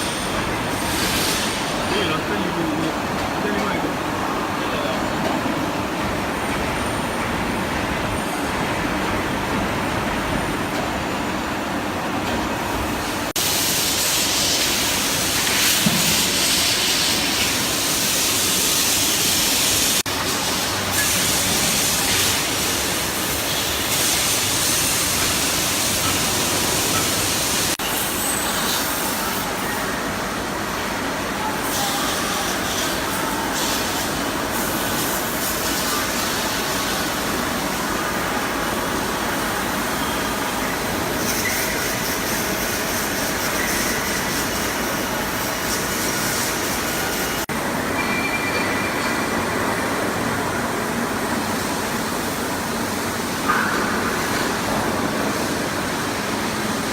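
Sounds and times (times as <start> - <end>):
workshop machinery running: 0.0 - 56.9.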